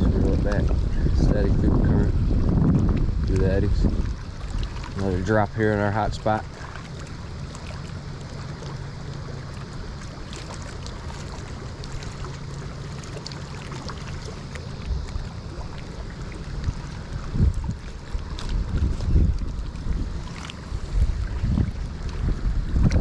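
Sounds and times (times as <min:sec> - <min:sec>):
low steady hum: 0:00.0 - 0:23.0
river water flowing: 0:00.0 - 0:23.0.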